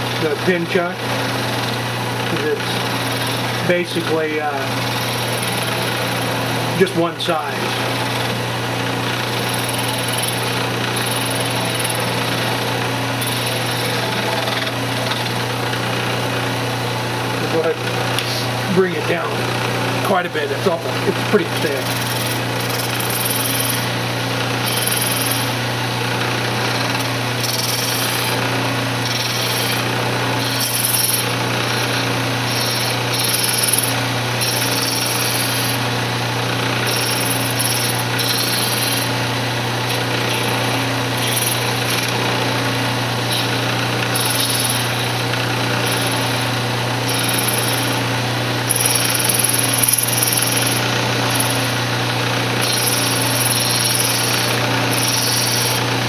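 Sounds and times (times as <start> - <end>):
tool cutting wood hissing: 0.0 - 8.5, 9.2 - 15.8, 16.4 - 25.8, 26.7 - 56.0
wood lathe motor hum: 0.0 - 56.0.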